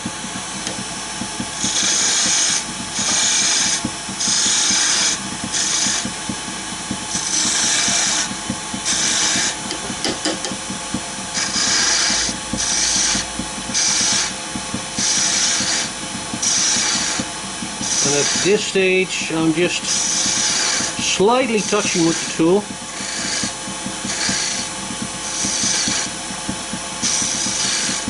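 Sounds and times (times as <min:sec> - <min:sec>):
gouge cutting wood hiss: 0:00.0 - 0:28.0
wood lathe running: 0:00.0 - 0:28.0.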